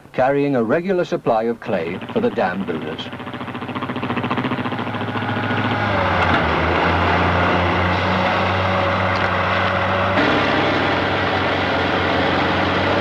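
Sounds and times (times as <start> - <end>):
diesel engine drone: 1.6 - 13.0.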